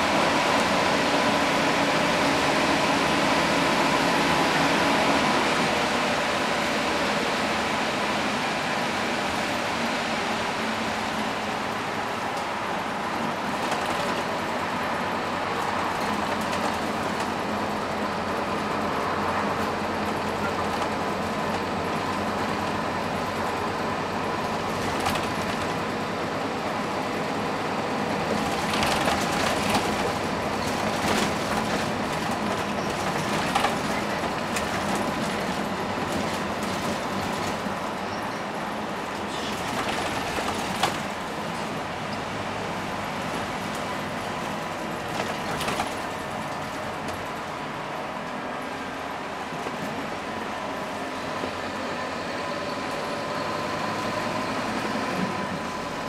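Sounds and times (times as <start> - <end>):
bus diesel engine hum: 0.0 - 56.0
road noise: 0.0 - 56.0.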